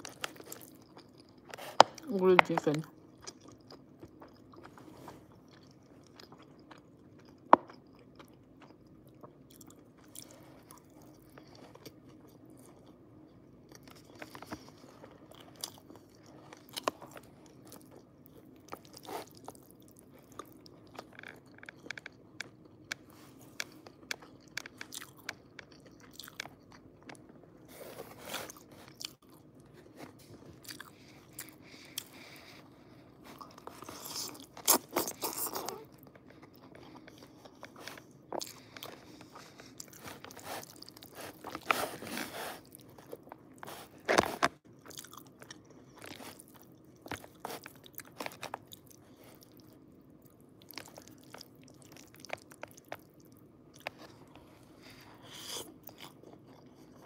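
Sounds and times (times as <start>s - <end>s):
faint steady hum: 0.0s - 57.0s
person chewing food: 0.0s - 57.0s.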